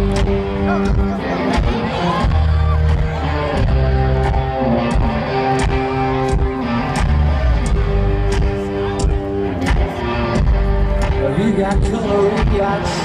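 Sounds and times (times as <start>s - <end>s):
bass: 0.0s - 13.0s
electric guitar: 0.0s - 13.0s.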